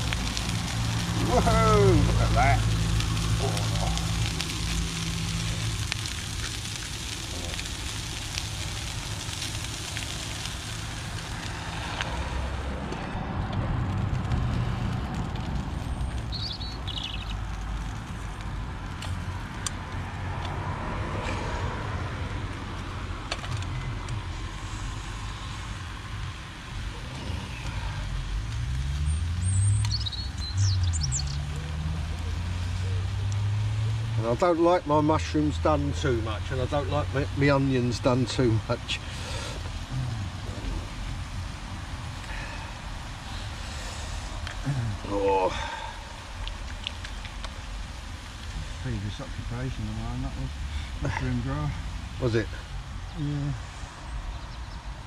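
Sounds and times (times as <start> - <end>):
food sizzling: 0.0 - 55.0.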